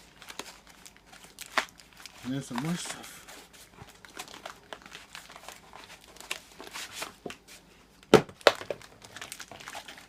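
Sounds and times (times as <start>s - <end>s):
packing material rustling: 0.0s - 10.0s.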